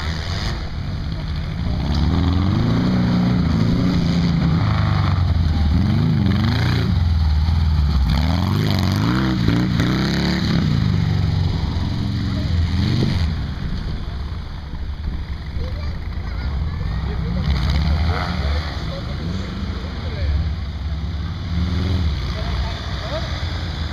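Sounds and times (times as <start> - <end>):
car engine revving: 0.0 - 15.4, 16.8 - 23.9.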